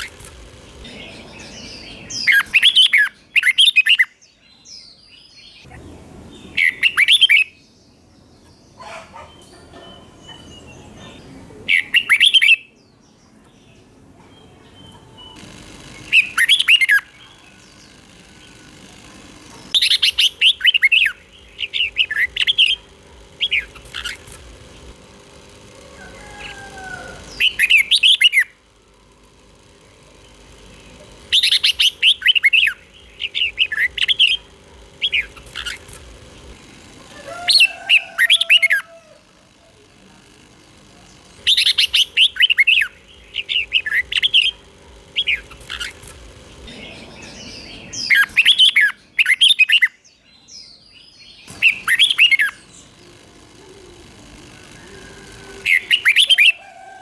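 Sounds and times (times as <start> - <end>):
bird warbling song: 0.0 - 25.0, 29.8 - 39.2, 40.6 - 56.6.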